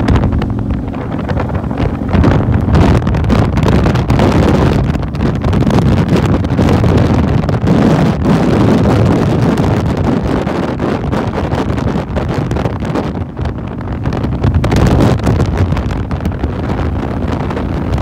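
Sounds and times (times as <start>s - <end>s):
motorcycle engine running: 0.0s - 18.0s
road noise: 0.0s - 18.0s
wind buffeting microphone: 0.0s - 18.0s.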